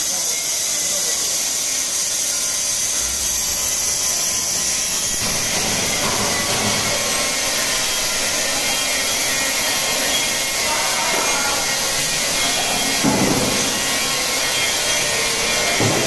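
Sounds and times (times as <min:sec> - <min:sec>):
bottling machine running: 0:01.2 - 0:16.0.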